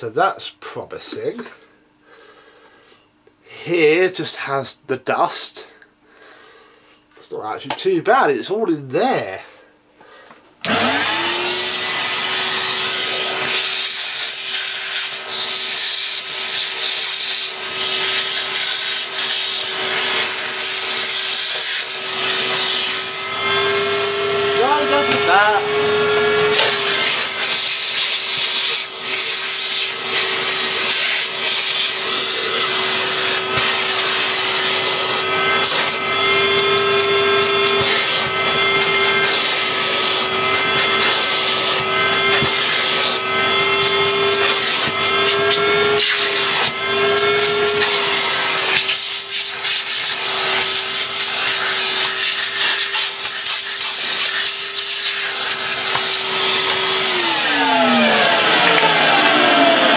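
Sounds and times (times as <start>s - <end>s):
vacuum cleaner whining: 9.0s - 59.9s
vacuum nozzle scraping plastic: 10.6s - 59.9s.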